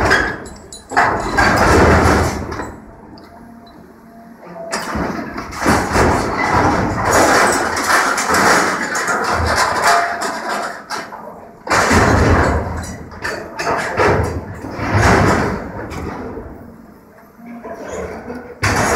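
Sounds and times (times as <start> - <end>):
hydraulic shear crunching metal: 0.0 - 3.8, 4.6 - 16.8, 17.6 - 18.9.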